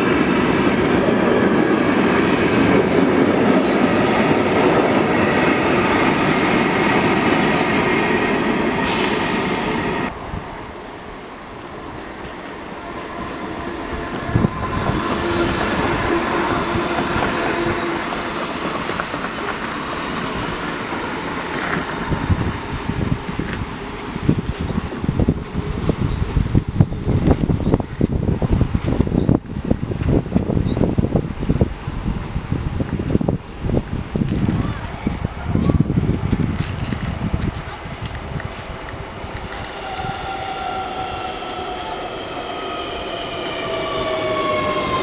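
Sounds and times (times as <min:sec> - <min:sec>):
electric train running through: 0:00.0 - 0:45.0
freight train rumbling past: 0:00.0 - 0:45.0.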